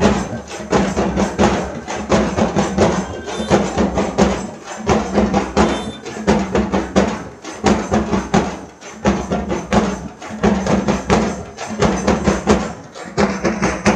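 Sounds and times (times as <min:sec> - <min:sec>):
procession band drums beating: 0:00.0 - 0:13.9.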